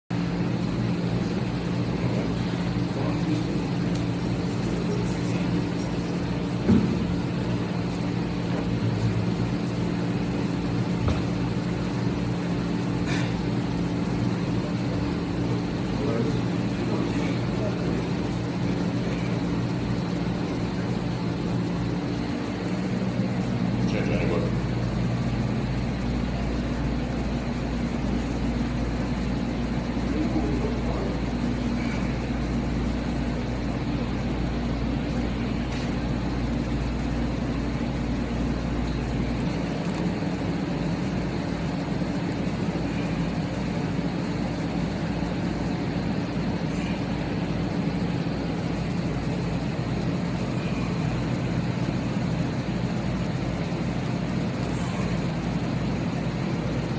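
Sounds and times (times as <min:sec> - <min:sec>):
loud mechanical hum: 0:00.1 - 0:56.9.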